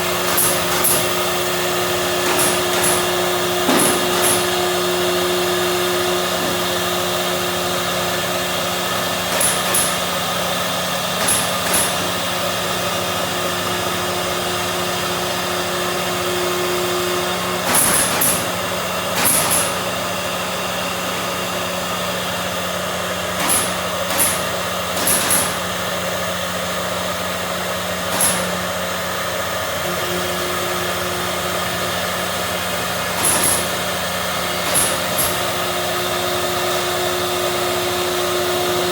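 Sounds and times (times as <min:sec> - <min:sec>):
cnc machine motor hum: 0:00.0 - 0:38.9.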